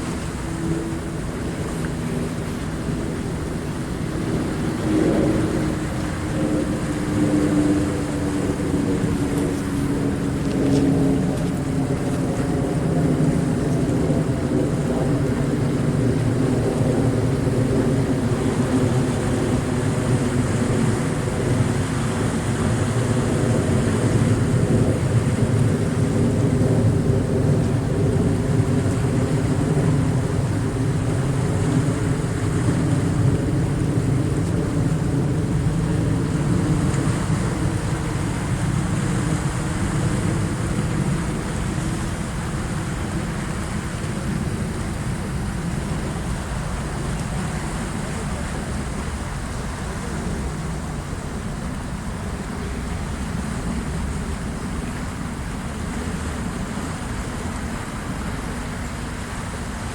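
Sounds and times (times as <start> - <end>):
low engine-like drone: 0.0 - 59.9
waves washing in: 0.0 - 59.9.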